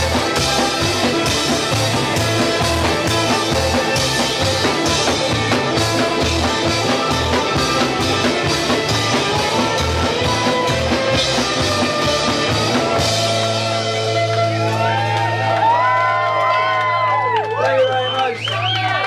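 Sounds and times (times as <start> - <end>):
live band playing up-tempo song: 0.0 - 19.0.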